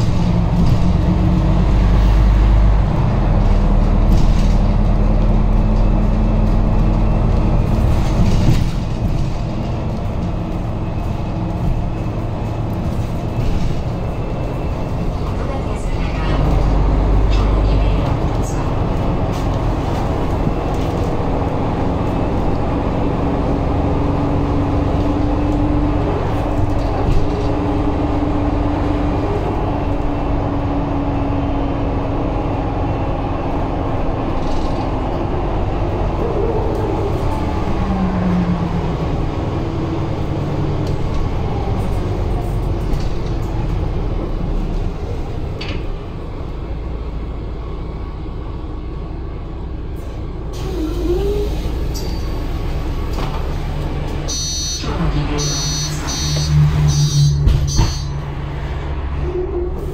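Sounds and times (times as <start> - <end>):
bus ride rumble: 0.0 - 59.9.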